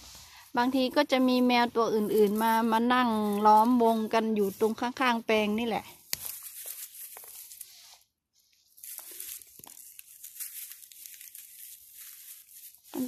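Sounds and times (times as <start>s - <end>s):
leaves and stalks rustling: 0.0s - 8.0s, 8.6s - 13.0s.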